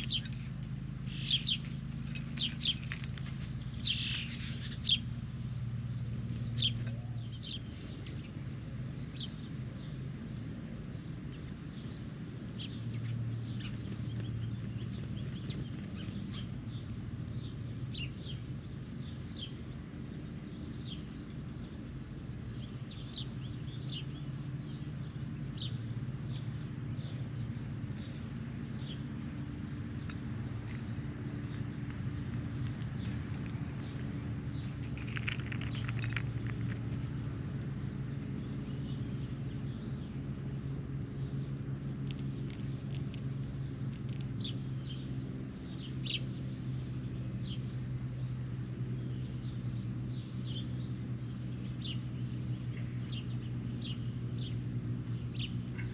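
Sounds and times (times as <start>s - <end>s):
birds chirping: 0.0s - 55.9s
steady low hum: 0.0s - 55.9s.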